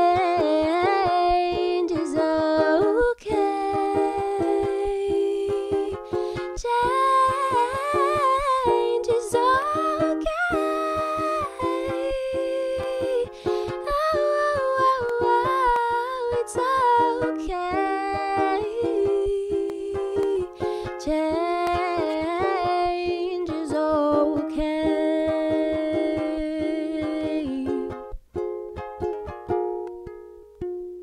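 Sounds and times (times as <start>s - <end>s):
woman singing: 0.0s - 28.0s
ukulele strumming: 0.0s - 31.0s.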